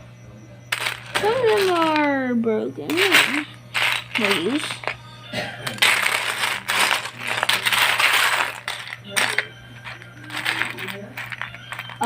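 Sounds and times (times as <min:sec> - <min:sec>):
plastic toy bricks clattering: 0:00.7 - 0:02.1, 0:02.9 - 0:05.0, 0:05.6 - 0:12.0.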